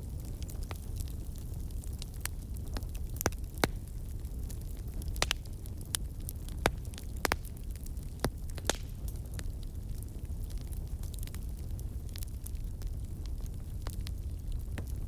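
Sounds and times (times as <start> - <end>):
low rumble of burning: 0.0 - 15.0
wood fire crackling: 0.0 - 15.0
sharp pops of fire: 0.1 - 15.0.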